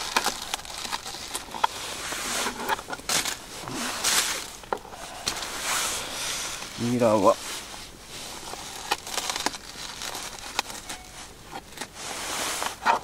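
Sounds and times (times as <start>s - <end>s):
chives rustling and scraping: 0.0s - 13.0s.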